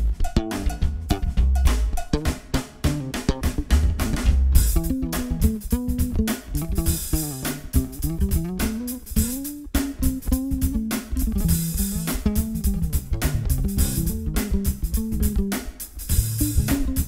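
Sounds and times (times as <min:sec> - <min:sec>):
band music with bass guitar: 0:00.0 - 0:17.0.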